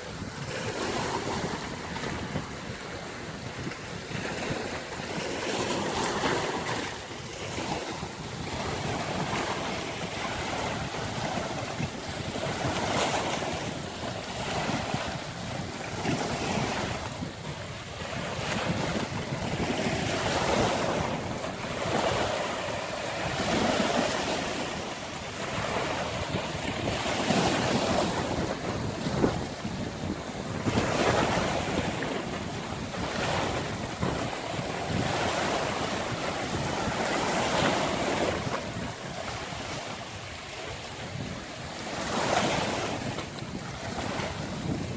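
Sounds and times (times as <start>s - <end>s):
waves breaking on beach: 0.0s - 44.9s
wind buffeting microphone: 0.0s - 44.9s.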